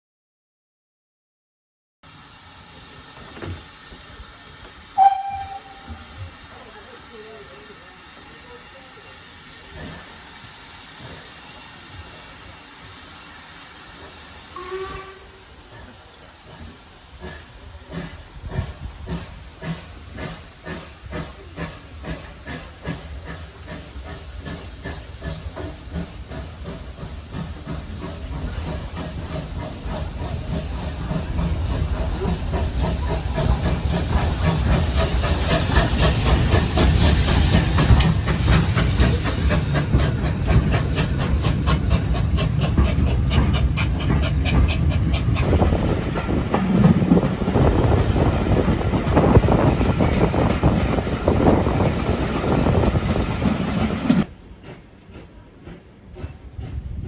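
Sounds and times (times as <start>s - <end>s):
loud steam hiss: 2.0s - 57.0s
steam locomotive exhaust beats: 2.1s - 57.0s.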